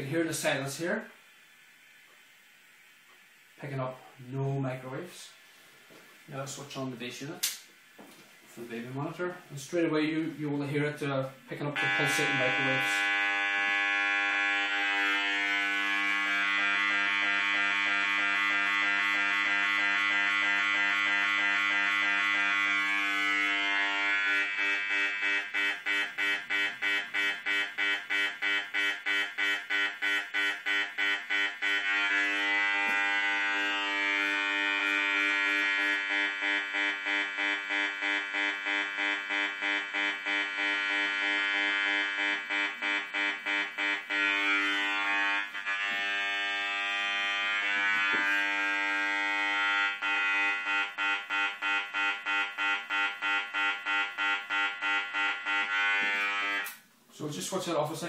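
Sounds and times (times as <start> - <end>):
electronic detector buzzing: 10.5 - 57.6.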